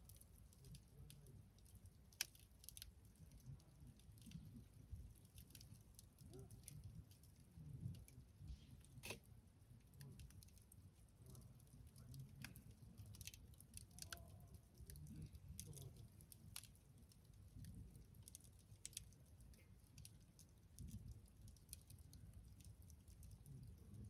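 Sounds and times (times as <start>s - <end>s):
faint campfire crackling: 0.0s - 24.0s.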